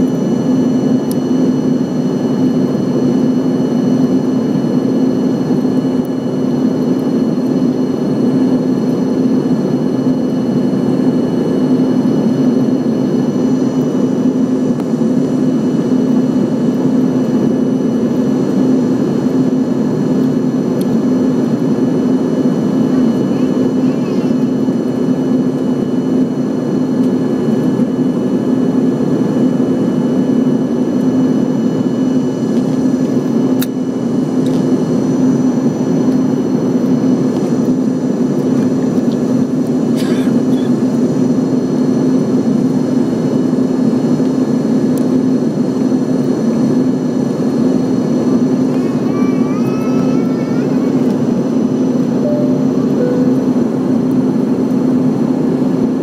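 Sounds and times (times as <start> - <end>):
airliner cabin engine drone: 0.0 - 56.0
high whine: 0.0 - 56.0.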